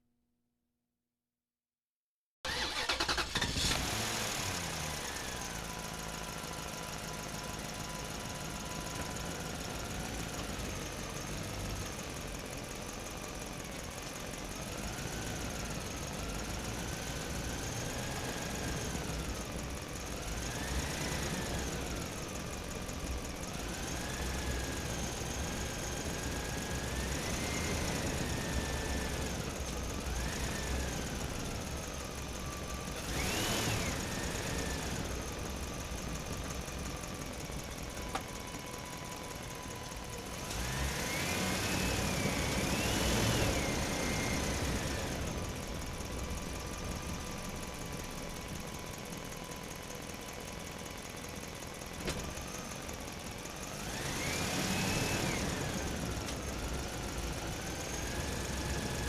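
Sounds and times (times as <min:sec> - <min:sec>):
motor rumbling and whining: 0:03.5 - 0:59.0.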